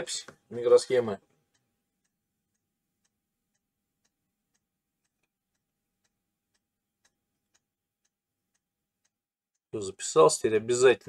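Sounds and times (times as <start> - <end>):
faint even ticking: 0.0 - 11.0.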